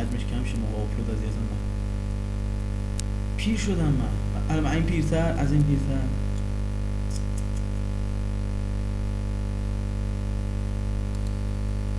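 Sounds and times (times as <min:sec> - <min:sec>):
electrical mains hum: 0:00.0 - 0:11.9.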